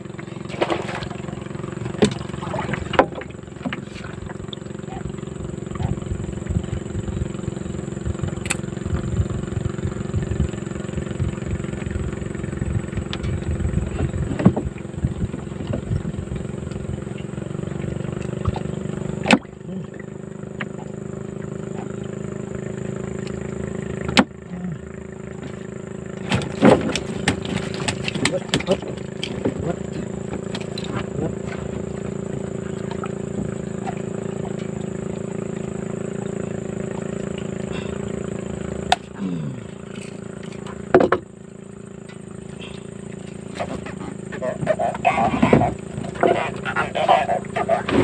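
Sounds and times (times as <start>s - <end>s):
small boat engine running: 0.0s - 48.0s.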